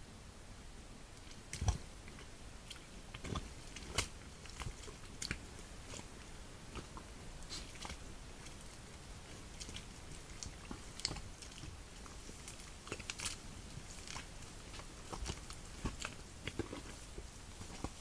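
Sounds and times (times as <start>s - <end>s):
deer moving in mud: 1.2s - 18.0s.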